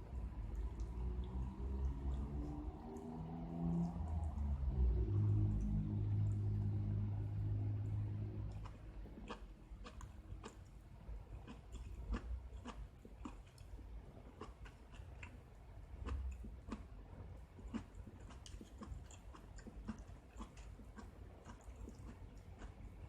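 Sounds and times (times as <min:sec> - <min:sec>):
person chewing noodles: 0:00.1 - 0:04.5, 0:07.9 - 0:23.0.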